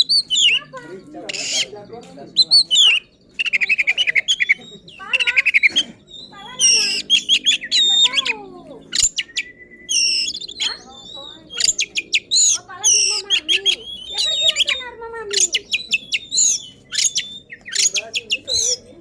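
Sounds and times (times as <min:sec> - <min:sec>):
songbird singing whistles and trills: 0:00.0 - 0:18.9.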